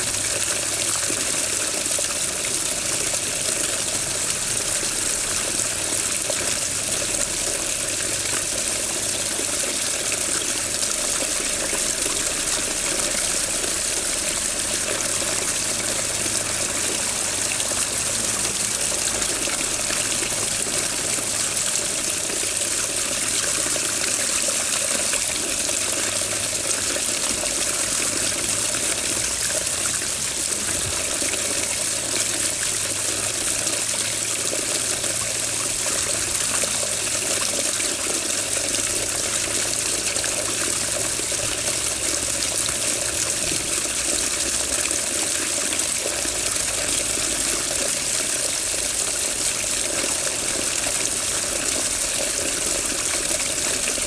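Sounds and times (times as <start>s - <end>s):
running water flowing: 0.0s - 54.0s.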